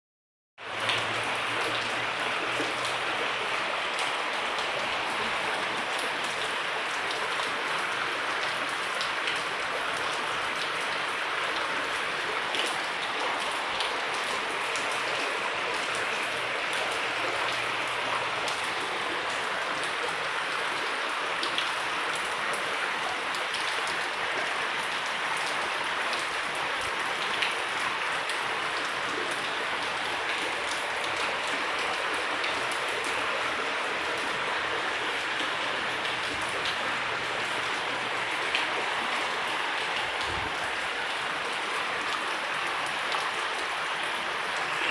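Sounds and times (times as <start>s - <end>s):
heavy rain falling: 0.6s - 44.9s.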